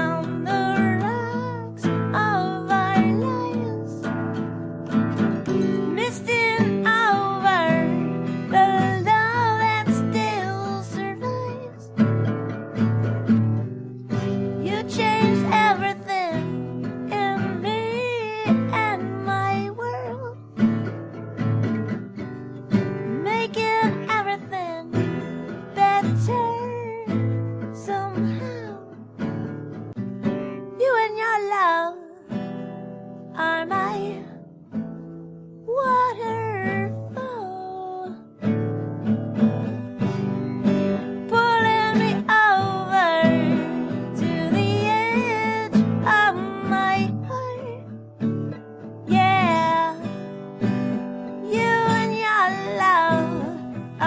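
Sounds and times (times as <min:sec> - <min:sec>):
woman singing: 0:00.0 - 0:29.6, 0:30.3 - 0:34.8, 0:35.6 - 0:39.0, 0:39.7 - 0:54.0
strummed acoustic guitar: 0:00.0 - 0:54.0.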